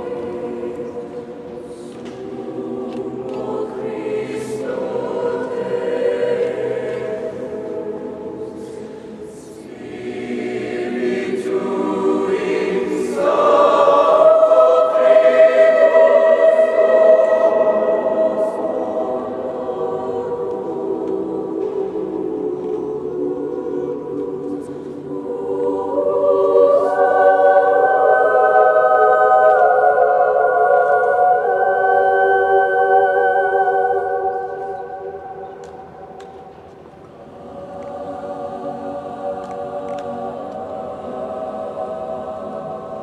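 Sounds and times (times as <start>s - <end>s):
choir singing sustained chords: 0.0s - 43.0s.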